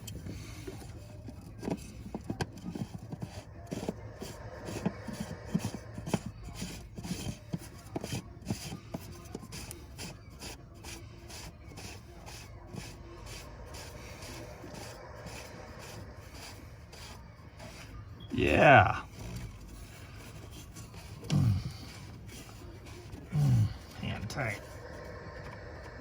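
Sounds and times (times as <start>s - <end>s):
cap rubbing and scraping: 0.0s - 26.0s.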